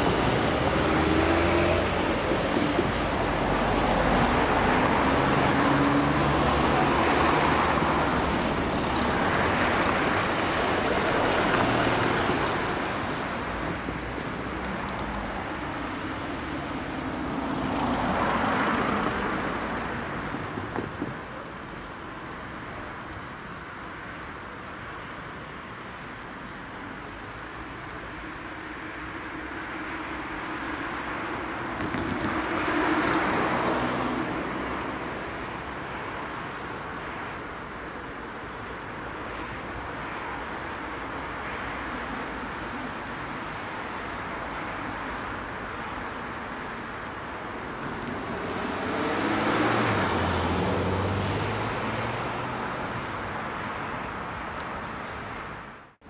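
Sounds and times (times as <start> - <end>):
car passing with tyre noise: 0.0 - 56.0
road traffic: 0.0 - 56.0.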